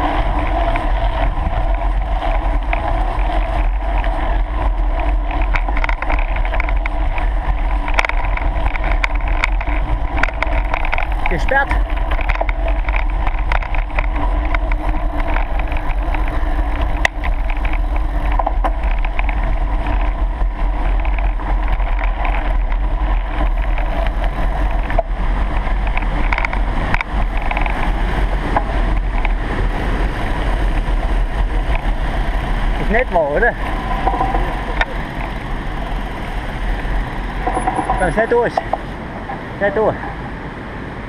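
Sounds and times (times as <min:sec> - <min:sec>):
bike frame rattling: 0:00.0 - 0:40.2
mountain bike riding on dirt: 0:00.0 - 0:41.0
wind rumbling on microphone: 0:00.0 - 0:41.0.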